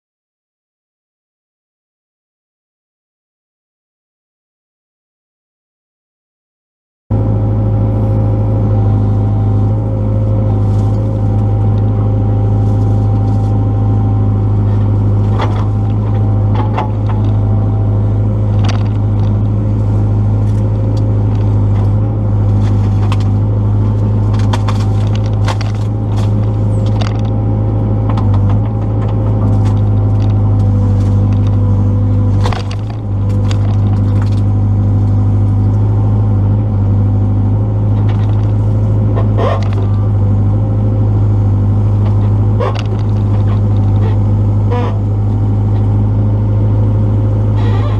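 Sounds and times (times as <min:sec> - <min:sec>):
excavator diesel engine running: 0:07.1 - 0:47.9.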